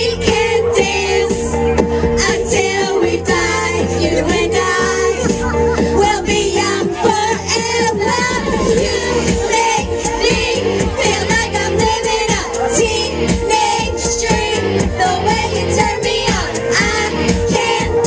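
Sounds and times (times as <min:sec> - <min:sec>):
people singing into microphones: 0:00.0 - 0:18.0
pop backing track with steady beat: 0:00.0 - 0:18.0.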